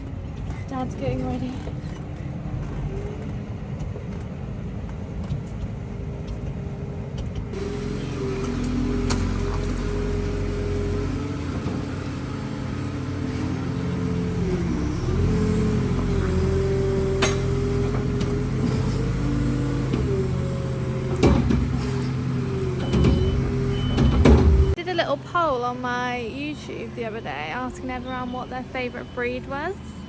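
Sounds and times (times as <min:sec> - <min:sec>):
diesel engine running: 0:05.8 - 0:30.0.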